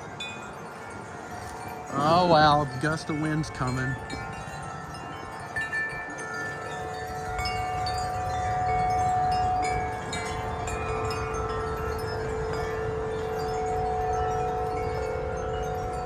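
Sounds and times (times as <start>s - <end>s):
metal wind chimes ringing: 0.0s - 16.0s
wind rumble on microphone: 0.0s - 16.0s.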